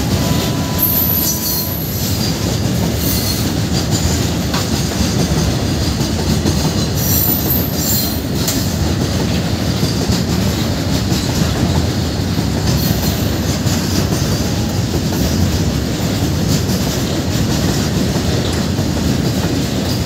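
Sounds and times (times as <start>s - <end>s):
freight wagons rumbling on rails: 0.0s - 20.0s.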